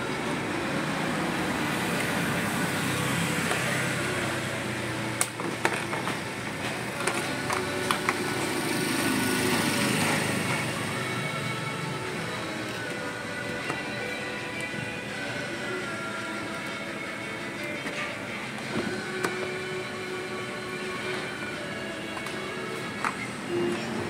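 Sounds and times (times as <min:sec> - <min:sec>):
vehicle engine drone: 0:00.0 - 0:24.0.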